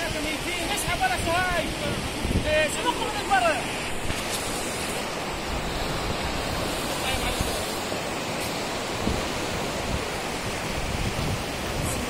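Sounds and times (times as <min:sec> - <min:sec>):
surf washing on a beach: 0:00.0 - 0:12.0.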